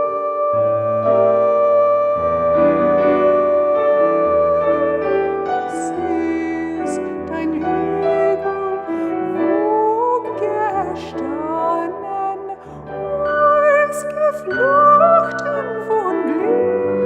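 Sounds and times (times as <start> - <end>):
piano slow accompaniment: 0.0 - 17.0
soprano voice singing with vibrato: 0.0 - 17.0.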